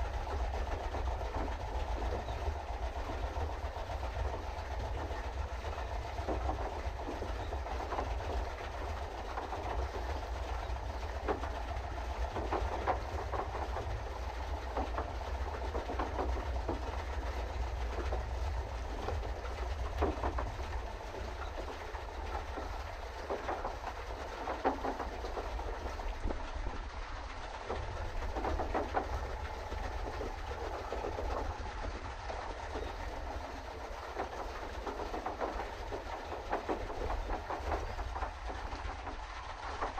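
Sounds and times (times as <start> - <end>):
paddle-wheel drive churning: 0.0 - 39.9
mechanism clattering and knocking: 0.1 - 26.8, 27.6 - 39.9.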